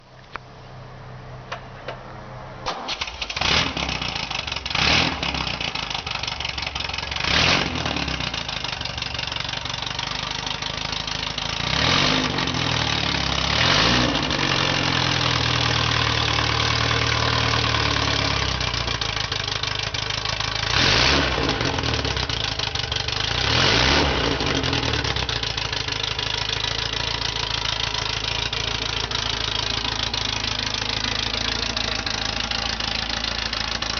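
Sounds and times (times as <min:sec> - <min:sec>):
car engine revving and idling: 0:00.6 - 0:33.9.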